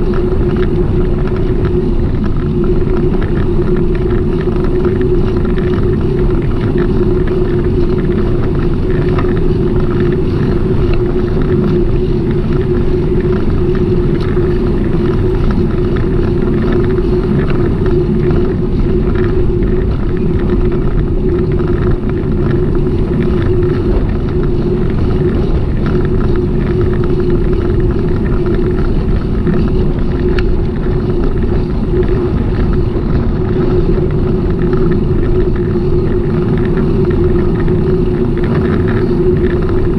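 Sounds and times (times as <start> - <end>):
bicycle rolling: 0.0 - 39.9
constant hum: 0.0 - 39.9
wind noise: 0.0 - 39.9.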